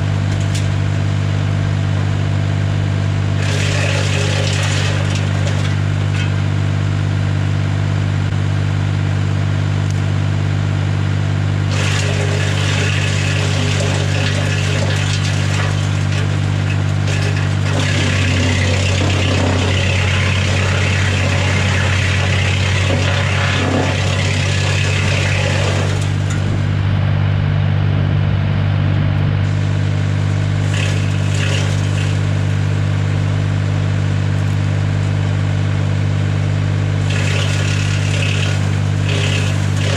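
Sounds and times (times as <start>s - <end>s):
tractor engine running: 0.0s - 39.9s
wood chipper shredding branches: 0.0s - 39.9s.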